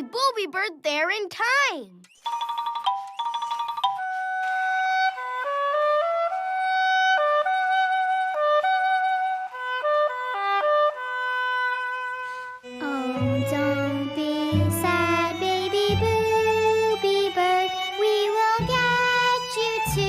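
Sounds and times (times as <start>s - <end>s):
cartoon woodwind melody: 2.2s - 20.0s.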